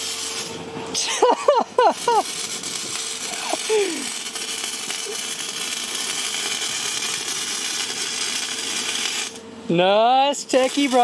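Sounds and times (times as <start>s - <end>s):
arc welding crackling hiss: 0.0s - 11.0s.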